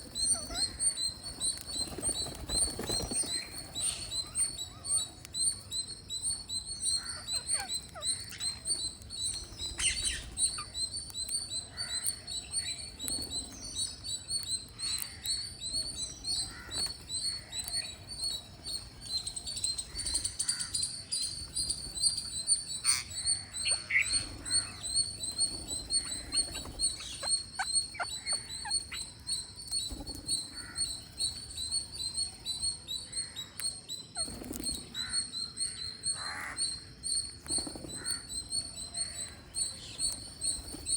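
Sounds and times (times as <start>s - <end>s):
parrots chirping: 0.0s - 37.0s.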